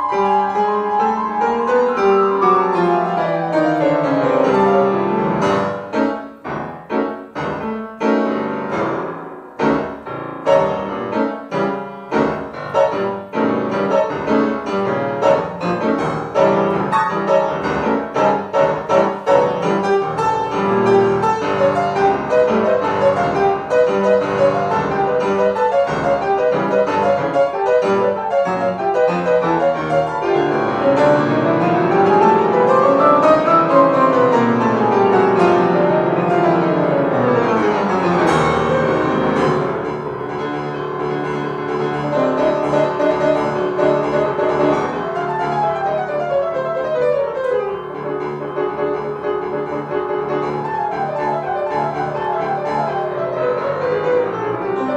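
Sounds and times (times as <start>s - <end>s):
solo piano improvisation: 0.0s - 54.9s.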